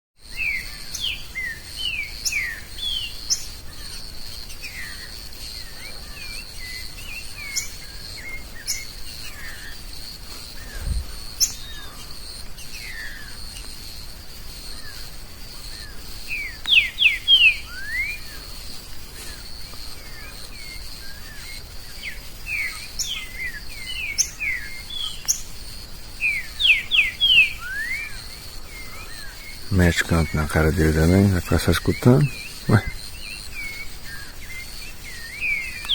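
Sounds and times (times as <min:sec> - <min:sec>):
high insect drone: 0:00.2 - 0:35.9
bird singing whistled notes: 0:00.3 - 0:09.7, 0:10.6 - 0:12.0, 0:12.6 - 0:13.4, 0:15.6 - 0:18.4, 0:20.0 - 0:25.5, 0:26.2 - 0:35.9.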